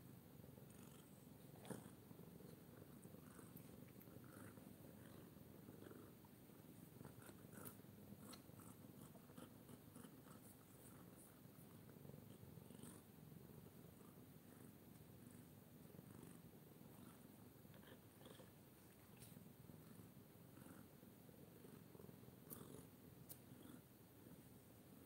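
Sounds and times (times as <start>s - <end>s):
cat purring: 0.3s - 25.0s.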